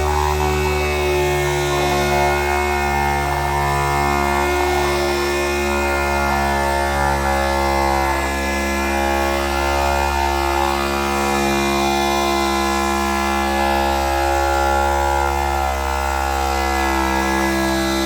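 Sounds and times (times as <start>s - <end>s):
background music with bass line: 0.0s - 18.0s
machine hum: 0.0s - 18.0s.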